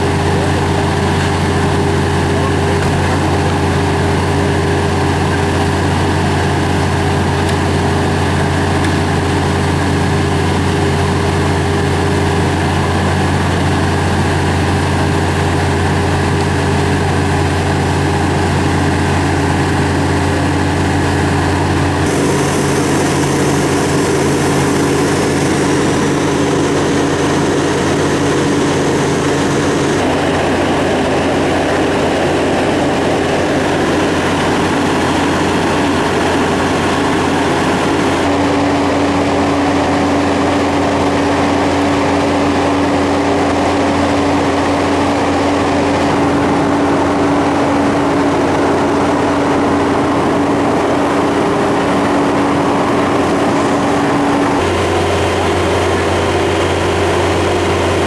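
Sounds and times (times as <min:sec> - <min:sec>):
heavy machinery engines running: 0:00.0 - 0:58.0.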